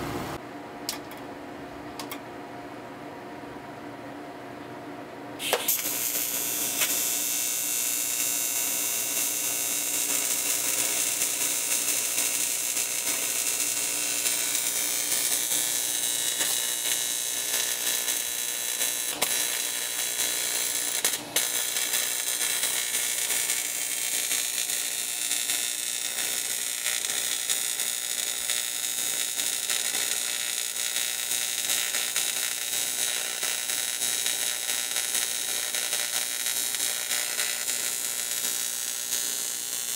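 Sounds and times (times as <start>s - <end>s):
welding arc buzzing hiss: 5.4s - 39.9s.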